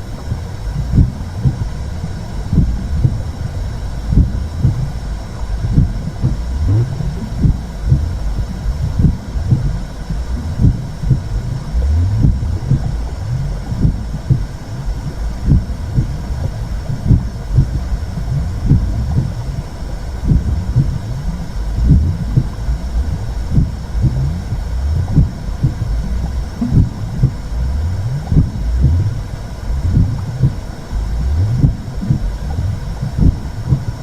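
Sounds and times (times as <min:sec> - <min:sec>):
soft heartbeat thumps: 0:00.0 - 0:34.0
steady low womb rumble: 0:00.0 - 0:34.0.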